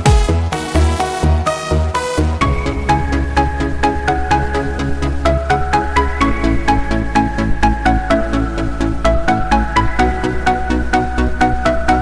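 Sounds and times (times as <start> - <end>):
electronic music with fast beat: 0.0 - 12.0.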